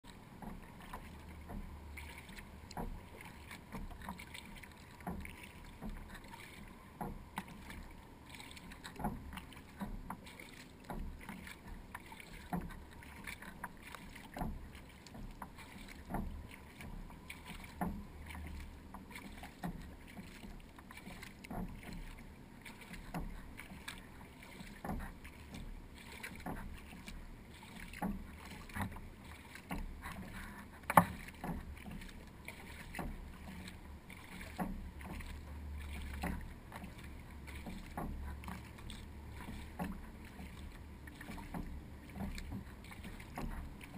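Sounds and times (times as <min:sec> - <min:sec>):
kayak paddle splashing: 0:00.0 - 0:43.9
low steady rumble: 0:00.1 - 0:24.4, 0:25.0 - 0:43.9.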